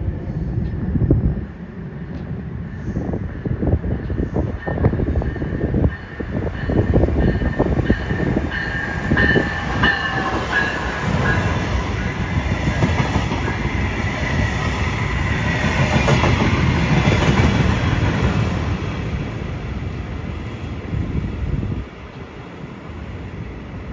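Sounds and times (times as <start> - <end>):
train wheels clattering on rails: 3.6 - 23.4.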